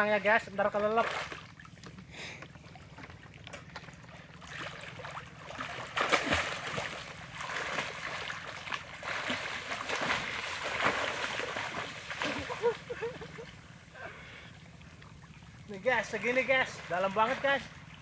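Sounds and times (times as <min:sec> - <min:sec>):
swimmers splashing water: 0:00.8 - 0:18.0.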